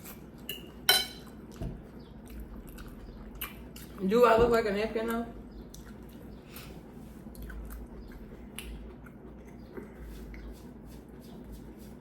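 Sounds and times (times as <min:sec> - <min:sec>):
person chewing food: 0:00.0 - 0:04.0, 0:05.6 - 0:12.0.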